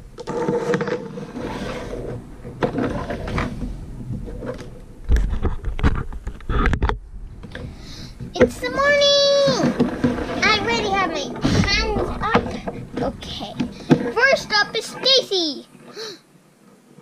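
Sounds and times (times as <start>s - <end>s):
plastic toys rustling and scraping: 0.0s - 16.0s.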